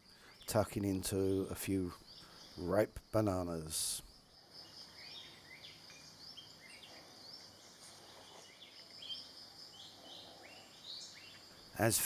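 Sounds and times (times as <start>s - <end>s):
high insect drone: 0.2s - 12.0s.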